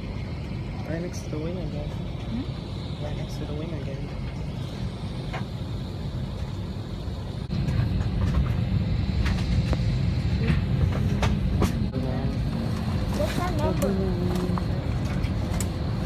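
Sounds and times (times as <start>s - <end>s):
cabin air system drone: 0.0s - 16.0s.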